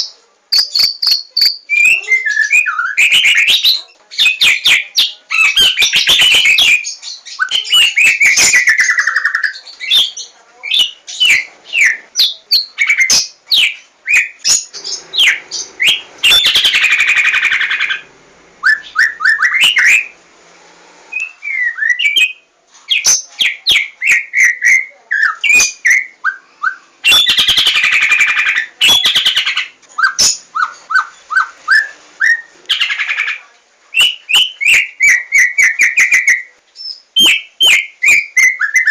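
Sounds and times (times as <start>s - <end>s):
songbird singing whistled phrases: 0.0s - 18.0s, 18.6s - 20.2s, 21.1s - 38.9s.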